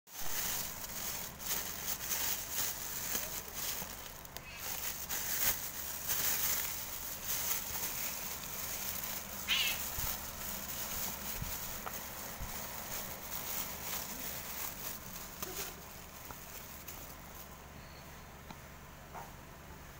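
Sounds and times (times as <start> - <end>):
plastic bag crinkling: 0.1 - 17.7.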